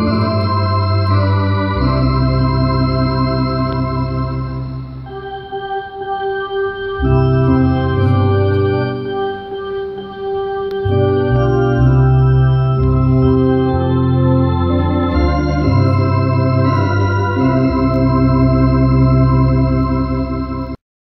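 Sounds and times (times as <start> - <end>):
electronic organ playing hymn chords: 0.0 - 20.8.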